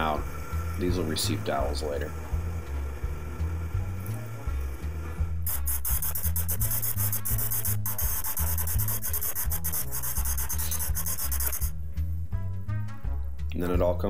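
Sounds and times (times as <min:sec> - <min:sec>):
drill boring into wood: 0:00.0 - 0:11.7
background music with bass: 0:00.0 - 0:14.0.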